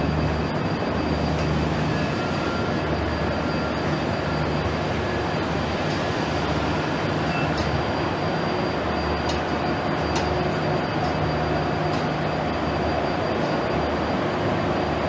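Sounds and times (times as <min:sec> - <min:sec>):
thin high whine: 0:00.0 - 0:15.0
train coaches rumbling: 0:00.0 - 0:15.0.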